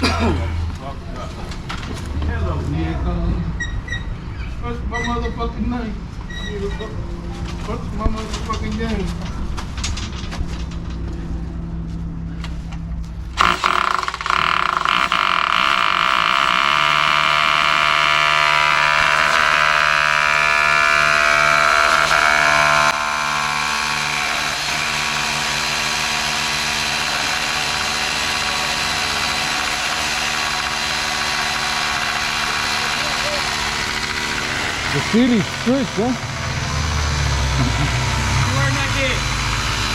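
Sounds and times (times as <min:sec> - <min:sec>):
engine running: 0:06.8 - 0:39.9.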